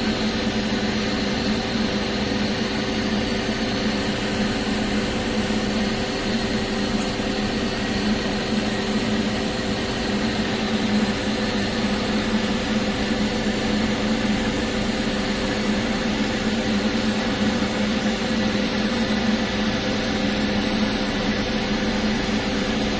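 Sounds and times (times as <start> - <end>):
machinery droning hum: 0.0 - 22.9.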